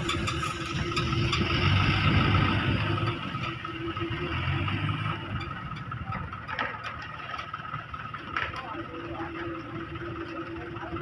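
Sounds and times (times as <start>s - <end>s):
diesel engines rumbling: 0.0s - 11.0s.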